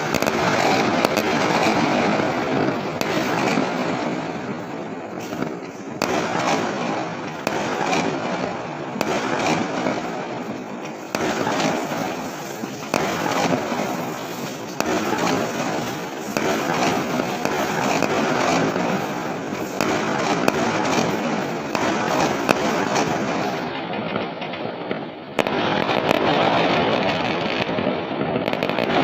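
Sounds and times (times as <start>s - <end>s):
fireworks bangs: 0.0s - 29.0s
fireworks crackling: 0.0s - 29.0s.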